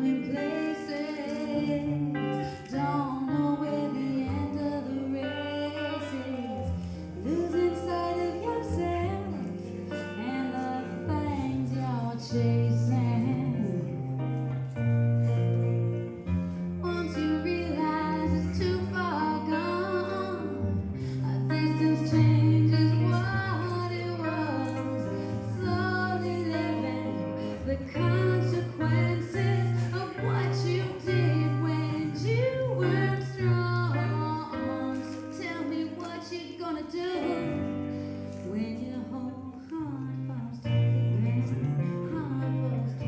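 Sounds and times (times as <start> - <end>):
guitar playing: 0.0 - 43.0
woman singing: 0.0 - 43.0.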